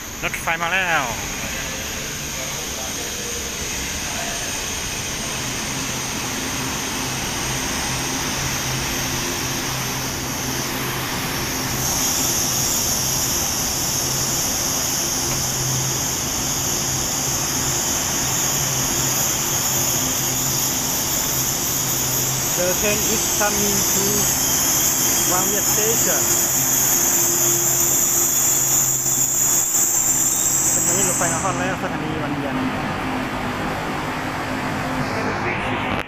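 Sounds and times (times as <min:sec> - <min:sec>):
high-pitched hiss: 0:00.0 - 0:32.3
electric train rushing: 0:00.0 - 0:36.0
low train hum: 0:00.0 - 0:36.0.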